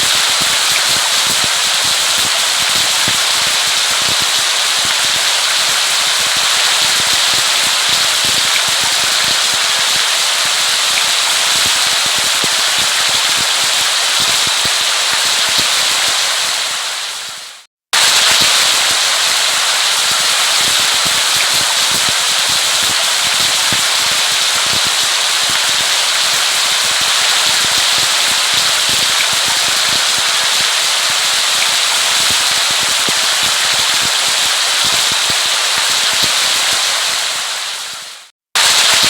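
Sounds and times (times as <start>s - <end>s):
heavy rain patter: 0.0s - 39.0s.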